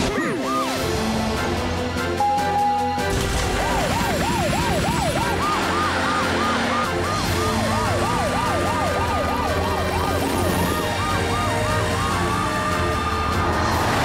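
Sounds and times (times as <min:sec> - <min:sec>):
siren yelps: 0:00.2 - 0:00.9, 0:02.2 - 0:13.8
siren wail: 0:00.3 - 0:00.9, 0:02.1 - 0:14.0.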